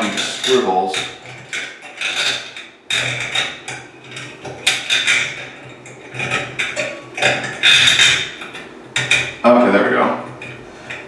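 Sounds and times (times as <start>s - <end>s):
light metal clinks and scrapes: 0.0s - 11.0s.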